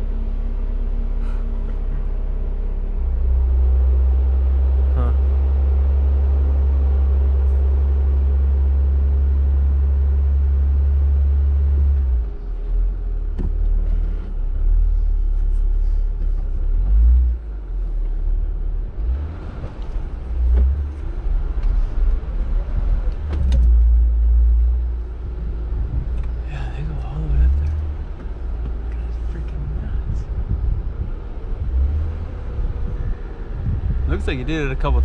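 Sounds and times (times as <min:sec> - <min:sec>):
off-road vehicle engine rumbling: 0:00.0 - 0:35.0.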